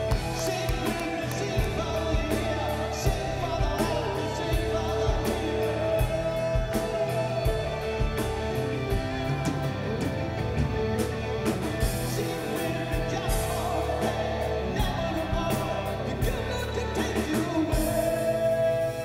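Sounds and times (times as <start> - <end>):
person singing: 0.0 - 8.9, 11.7 - 19.0
live rock band: 0.0 - 19.0.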